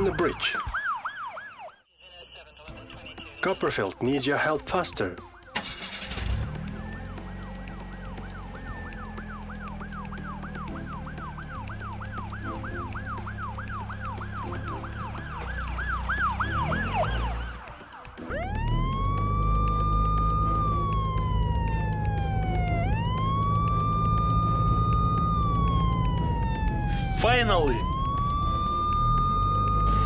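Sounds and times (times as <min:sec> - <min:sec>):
police siren: 0:00.0 - 0:03.0, 0:05.4 - 0:30.0.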